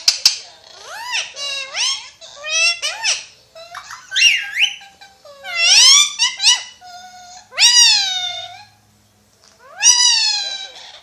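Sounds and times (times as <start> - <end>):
parakeet calling: 0.6 - 8.9, 9.5 - 11.0.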